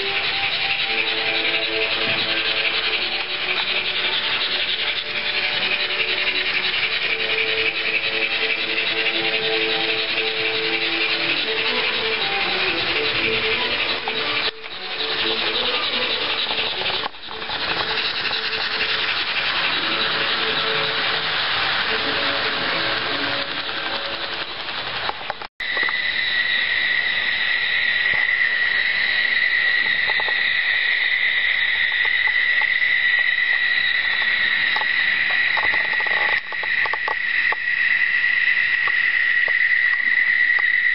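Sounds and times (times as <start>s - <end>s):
high-pitched whine: 0.0s - 40.9s
steady hiss: 0.0s - 40.9s.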